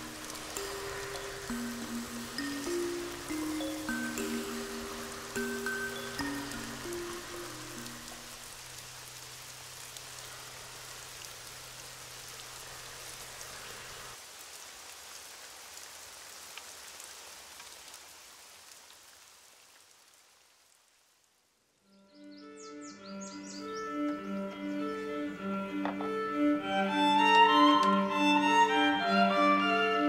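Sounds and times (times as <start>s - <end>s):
rain-like hiss with crackling: 0.0s - 22.4s, 23.2s - 30.0s.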